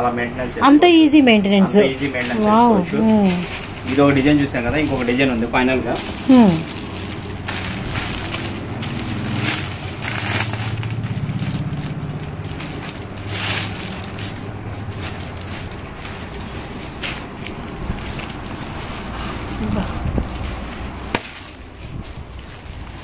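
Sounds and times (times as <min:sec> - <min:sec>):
plastic and silk rustling: 0:01.7 - 0:23.0.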